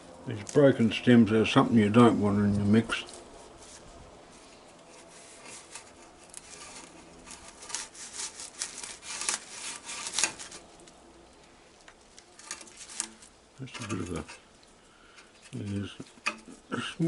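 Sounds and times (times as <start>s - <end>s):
leaf rasping through stripping tool: 0.3s - 14.6s.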